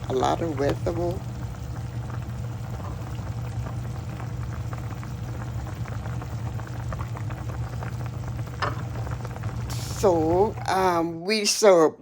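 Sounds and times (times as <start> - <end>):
low hum: 0.0 - 11.0
soup bubbling in a pot: 0.0 - 11.2.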